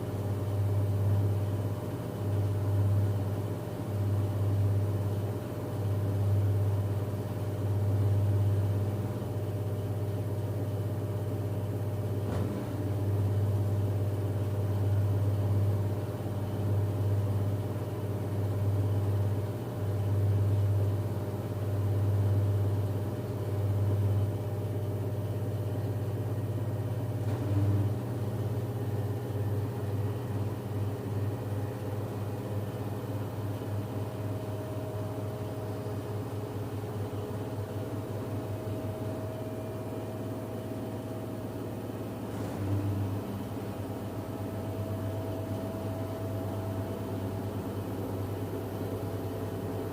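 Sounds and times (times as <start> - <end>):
washing machine spin whir: 0.0 - 49.9.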